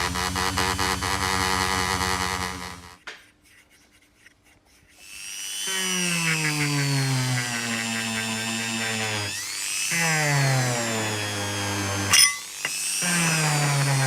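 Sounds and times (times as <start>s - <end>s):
small electric power tool buzzing: 0.0s - 3.0s, 5.0s - 14.0s.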